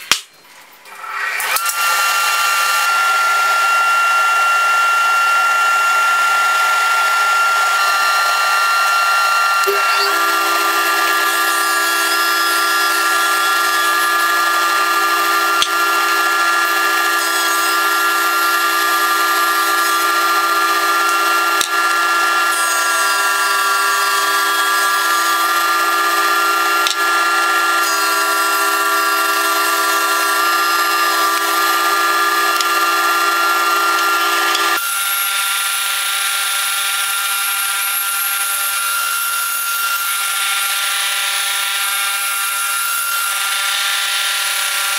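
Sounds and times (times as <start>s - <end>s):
table saw running with high whine: 0.0s - 44.9s
thickness planer running: 0.8s - 44.9s.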